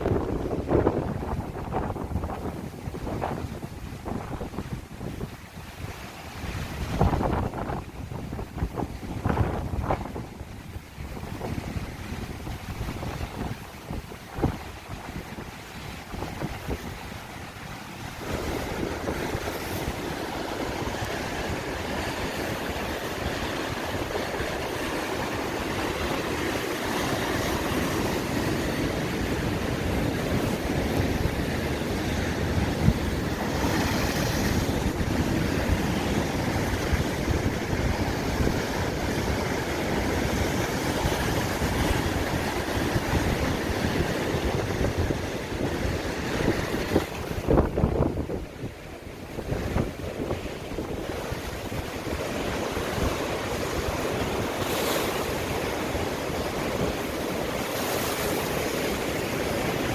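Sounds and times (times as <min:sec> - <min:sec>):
sea surf rushing: 0:00.0 - 0:59.9
wind buffeting microphone: 0:00.0 - 0:59.9.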